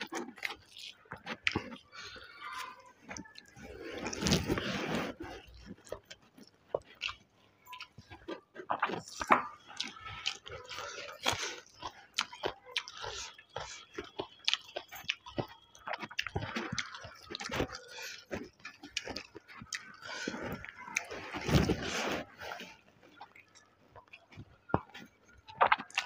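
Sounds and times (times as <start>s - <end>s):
chewing and lip smacks: 0.0s - 26.0s.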